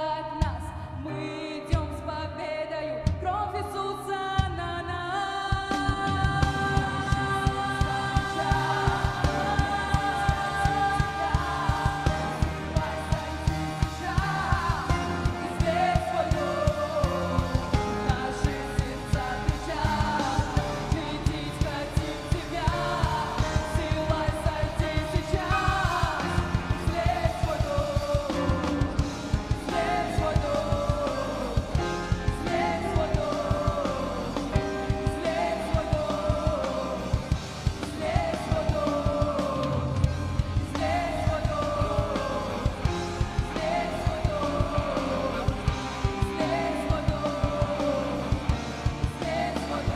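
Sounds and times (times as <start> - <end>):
person singing: 0.0 - 49.9
rock band playing: 5.6 - 49.9.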